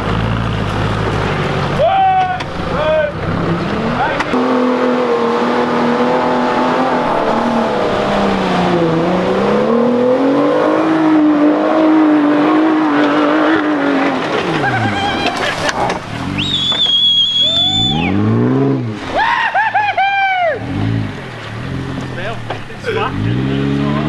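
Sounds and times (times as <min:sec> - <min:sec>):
engine revving under load: 0:02.4 - 0:19.2, 0:20.5 - 0:24.0.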